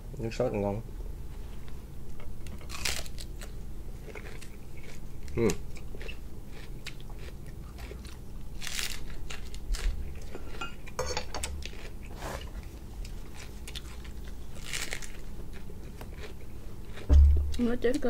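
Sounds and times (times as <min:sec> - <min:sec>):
biting and chewing: 0:02.2 - 0:17.6.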